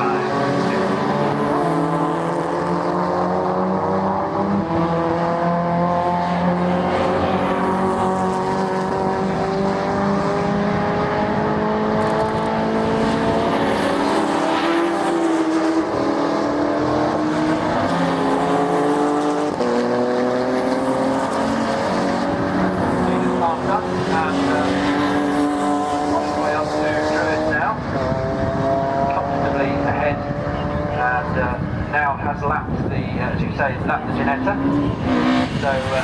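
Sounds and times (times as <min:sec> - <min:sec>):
racing car engines accelerating: 0:00.0 - 0:36.0.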